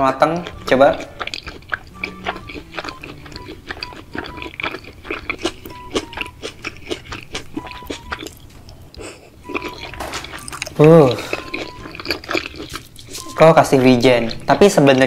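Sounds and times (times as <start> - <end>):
faint background music: 0.0 - 15.0
wet chewing mouth sounds: 0.0 - 15.0.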